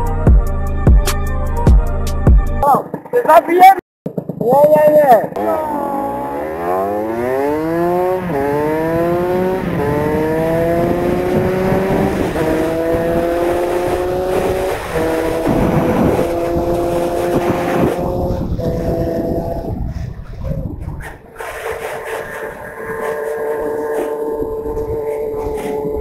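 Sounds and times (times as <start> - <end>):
motorcycle engine accelerating: 4.1 - 26.0.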